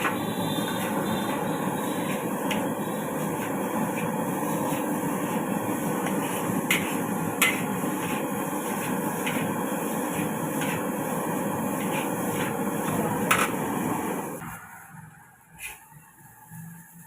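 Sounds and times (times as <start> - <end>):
gas flame and frying rush: 0.0 - 17.0.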